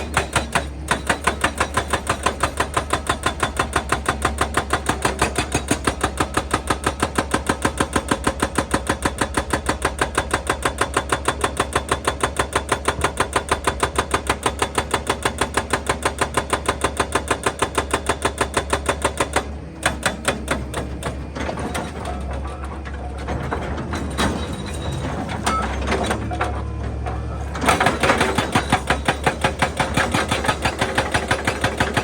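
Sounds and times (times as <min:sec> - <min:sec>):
hydraulic breaker hammering rock: 0:00.0 - 0:26.6, 0:27.5 - 0:32.0.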